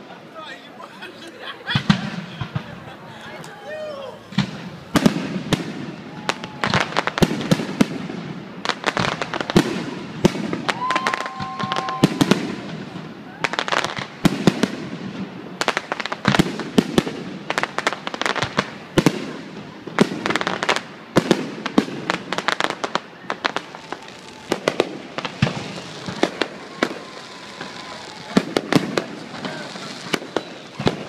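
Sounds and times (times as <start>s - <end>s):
fireworks cracks and bangs: 1.6s - 31.0s.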